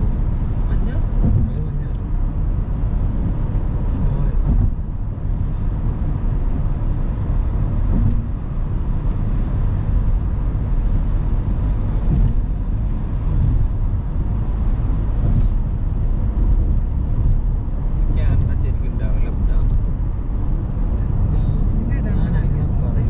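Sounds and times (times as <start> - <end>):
car engine drone: 0.0 - 23.0
road and tyre noise: 0.0 - 23.0.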